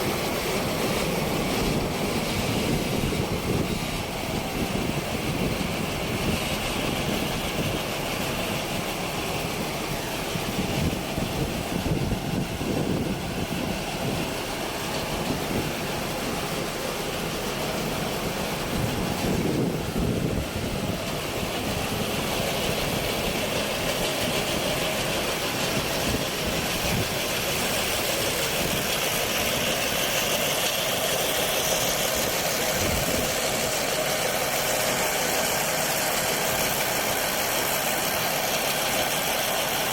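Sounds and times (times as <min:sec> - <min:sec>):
harvesting machine engine running: 0:00.0 - 0:39.9.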